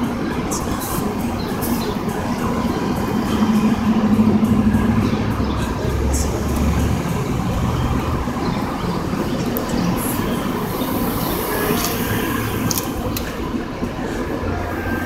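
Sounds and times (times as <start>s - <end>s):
cars passing close by: 0.0s - 15.0s
vehicle engines running: 0.0s - 15.0s.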